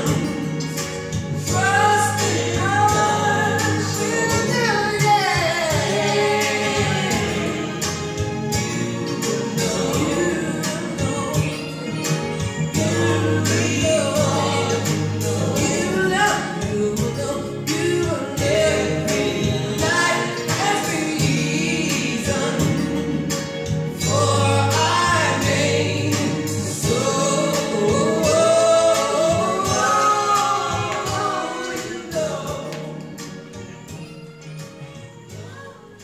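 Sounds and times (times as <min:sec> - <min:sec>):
steady bass line: 0:00.0 - 0:35.2
voices singing together: 0:00.0 - 0:36.0.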